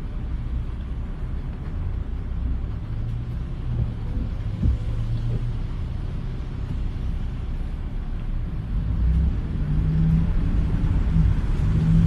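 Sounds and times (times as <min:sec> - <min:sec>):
low engine hum: 0:00.0 - 0:12.0
tyres on wet road: 0:00.0 - 0:12.0.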